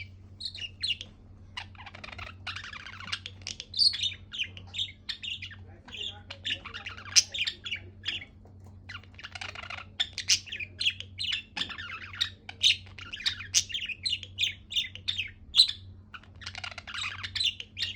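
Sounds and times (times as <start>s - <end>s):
budgerigar chirping and chattering: 0.0s - 17.9s
faint low hum: 0.0s - 17.9s.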